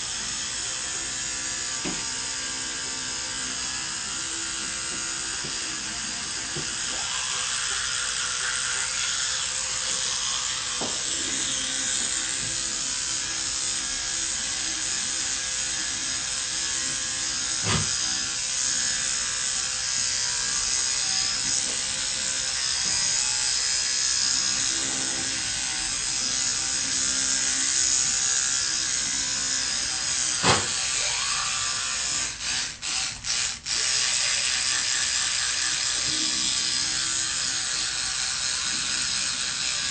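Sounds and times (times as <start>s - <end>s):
electric toothbrush buzzing: 0.0s - 39.9s.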